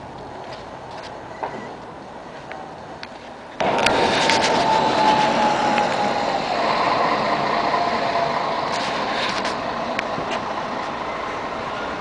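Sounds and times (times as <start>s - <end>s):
bus engine with drivetrain whine: 0.0s - 12.0s.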